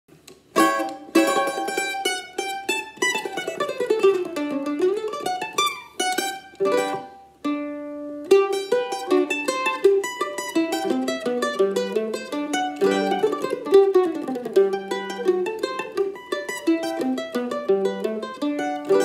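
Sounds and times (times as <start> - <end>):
mandolin playing: 0.1 - 19.0.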